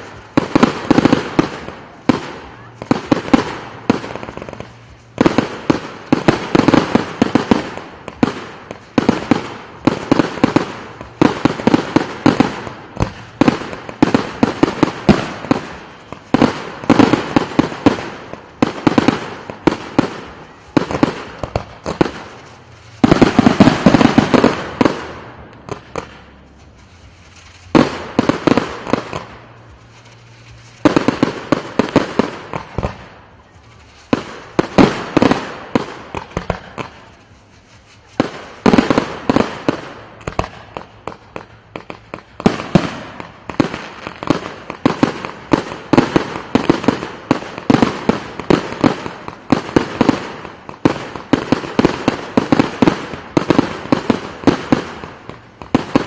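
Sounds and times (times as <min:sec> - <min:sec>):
fireworks launching and bursting: 0:00.0 - 0:56.0.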